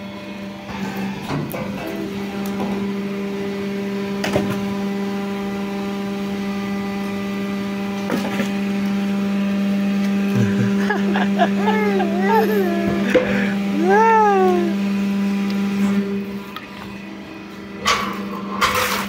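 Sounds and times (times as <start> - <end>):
log splitter motor humming: 0.0 - 19.0.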